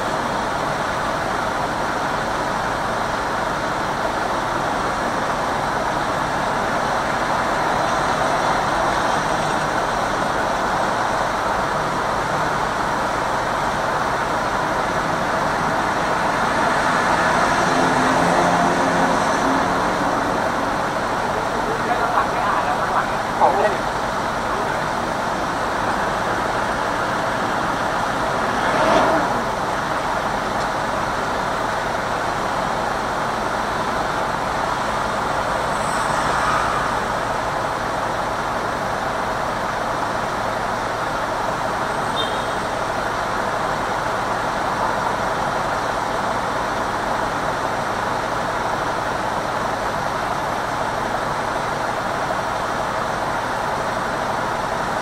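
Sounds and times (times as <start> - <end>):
traffic hum inside a car: 0.0 - 55.0.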